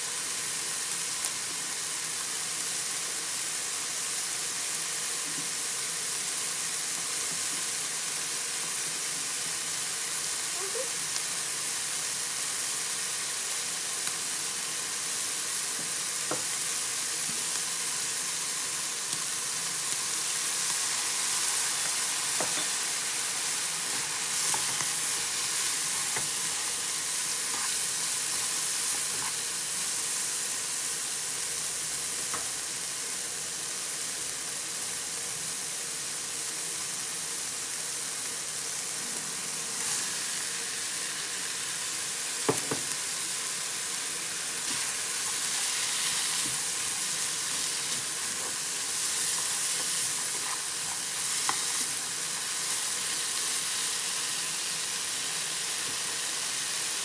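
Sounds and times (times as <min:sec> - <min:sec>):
meat and onions sizzling in a pan: 0:00.0 - 0:57.0.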